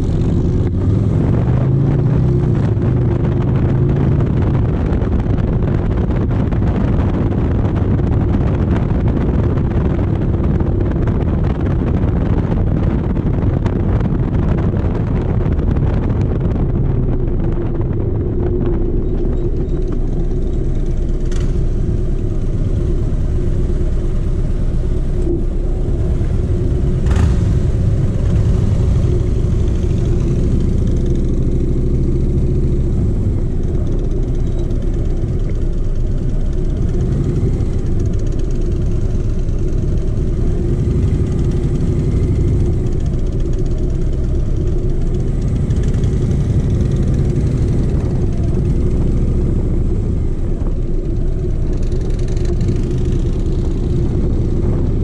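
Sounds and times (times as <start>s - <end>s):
motorcycle engine running: 0.0s - 55.0s
road noise: 0.0s - 55.0s
wind rushing: 0.0s - 55.0s.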